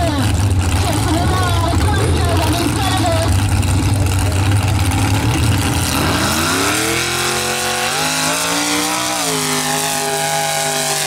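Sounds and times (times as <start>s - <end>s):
truck engine accelerating hard: 0.0s - 11.0s.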